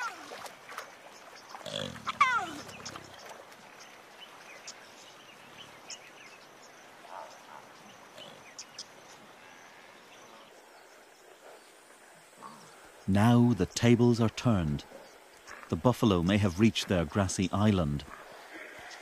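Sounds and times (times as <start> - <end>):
faint high chirps and ticks: 0.3 - 15.8.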